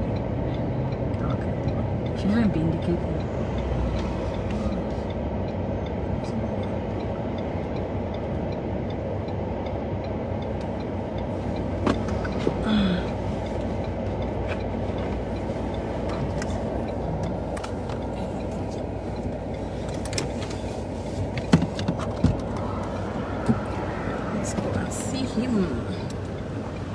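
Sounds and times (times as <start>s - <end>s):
motor vehicle engine rumbling: 0.0s - 26.9s.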